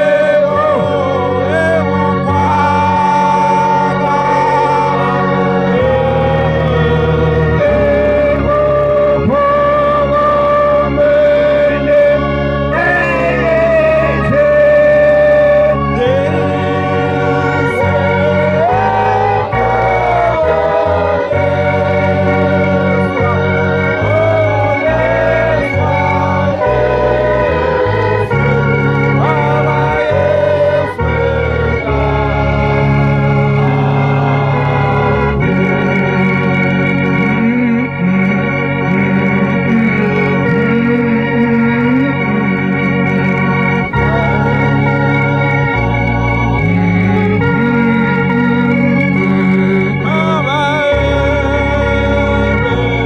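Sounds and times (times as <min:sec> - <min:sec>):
organ keyboard music: 0:00.0 - 0:53.0.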